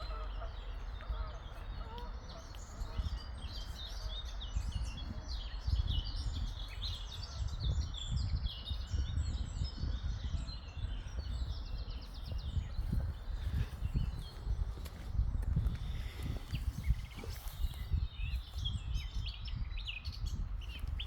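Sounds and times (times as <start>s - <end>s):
small songbirds chirping: 0.0s - 21.0s
wind rumble on microphone: 0.0s - 21.0s.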